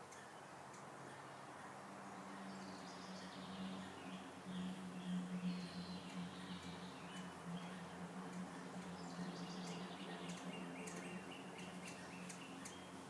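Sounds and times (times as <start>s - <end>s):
hummingbird wings humming: 2.2s - 13.0s.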